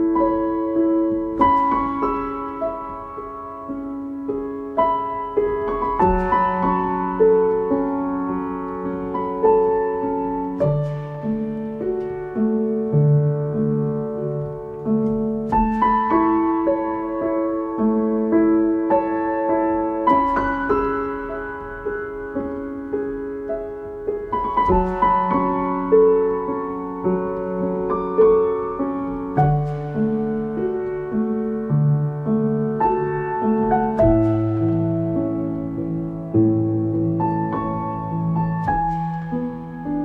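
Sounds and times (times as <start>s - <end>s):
solo piano music: 0.0s - 40.0s.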